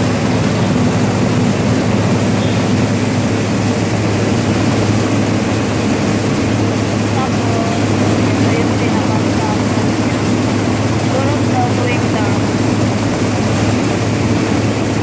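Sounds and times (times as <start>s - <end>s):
rice mill machinery drone: 0.0s - 15.0s.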